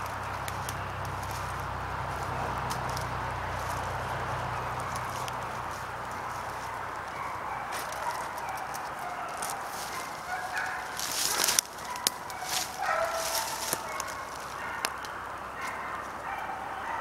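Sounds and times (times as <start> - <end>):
rustling near microphone: 0.0 - 16.4
distant hounds baying: 0.0 - 17.0.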